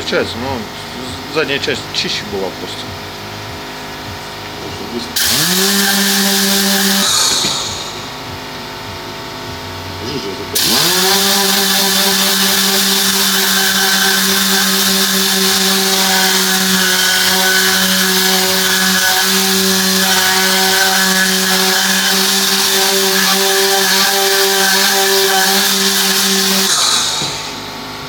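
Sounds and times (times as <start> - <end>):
cleaning machine motor hum: 0.0 - 28.0.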